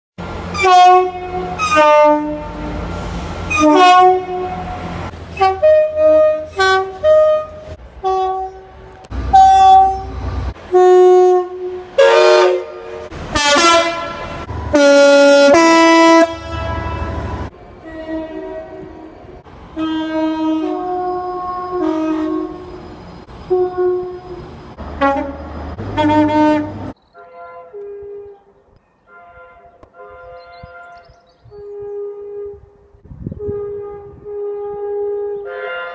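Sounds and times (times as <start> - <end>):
low train rumble: 0.2 - 35.9
two-tone train horn blasts: 0.5 - 35.9.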